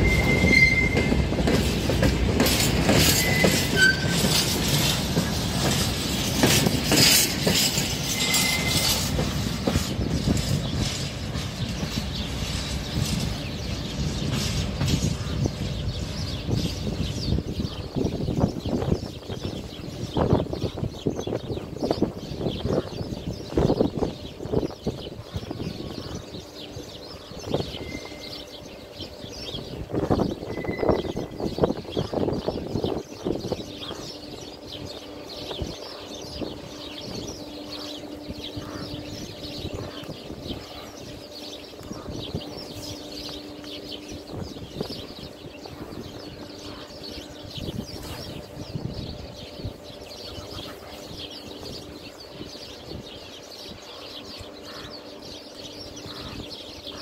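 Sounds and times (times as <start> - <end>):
train wheels clattering over rails: 0.0 - 48.5
distant locomotive hum: 0.0 - 57.0
small birds chirping: 0.0 - 57.0.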